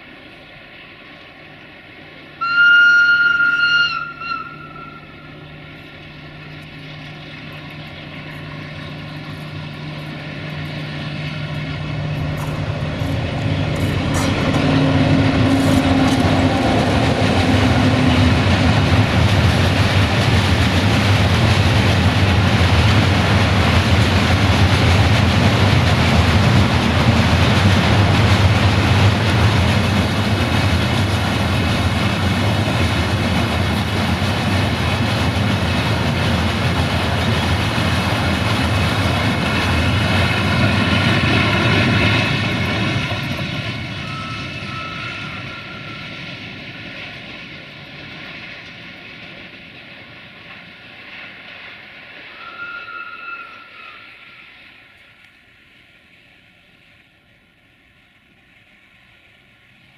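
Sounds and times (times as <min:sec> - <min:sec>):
locomotive engine hum: 0:00.0 - 0:59.9
train wheels rumbling on rails: 0:00.0 - 0:59.9.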